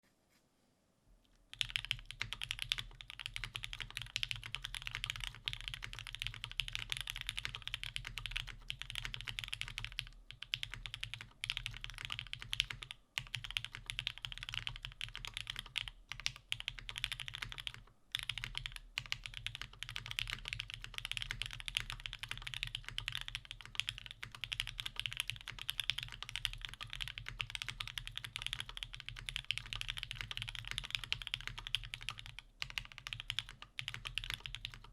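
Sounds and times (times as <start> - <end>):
fast mechanical keyboard typing: 1.5 - 34.9.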